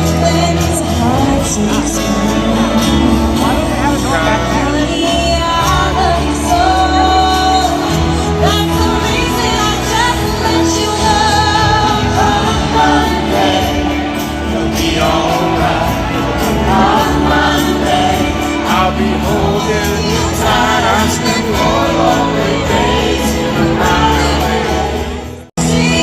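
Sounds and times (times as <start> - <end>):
live band music: 0.0 - 26.0
person singing: 0.0 - 26.0.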